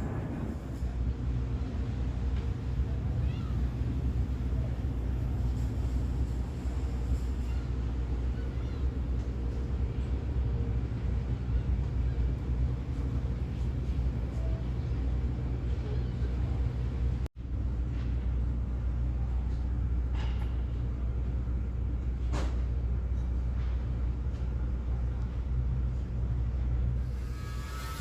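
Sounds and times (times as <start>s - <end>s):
large engine droning: 0.0s - 28.0s.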